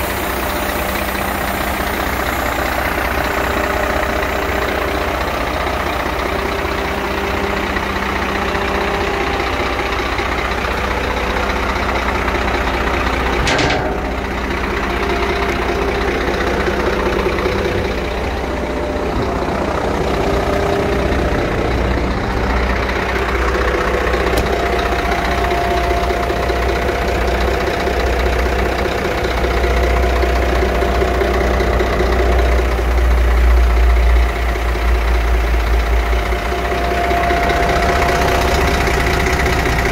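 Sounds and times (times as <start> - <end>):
diesel truck idling: 0.0 - 39.9.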